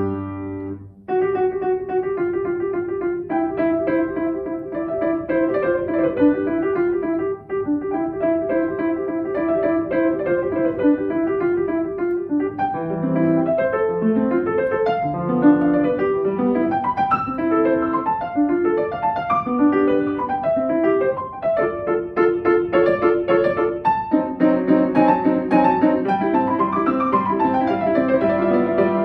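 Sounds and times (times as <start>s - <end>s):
solo classical piano piece: 0.0s - 29.0s.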